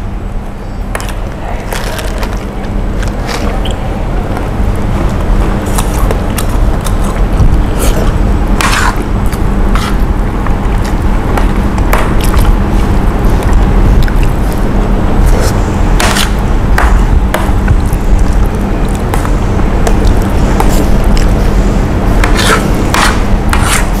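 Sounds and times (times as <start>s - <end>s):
low rumble: 1.4s - 23.6s.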